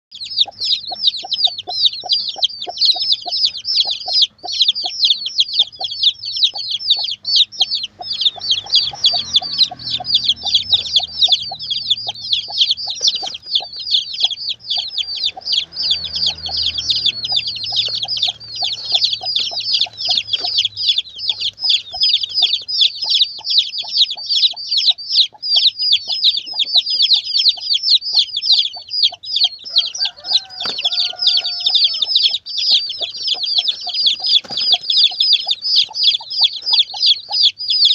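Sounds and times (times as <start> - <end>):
chicks peeping: 0.1 - 37.9
hen clucking: 0.2 - 37.9.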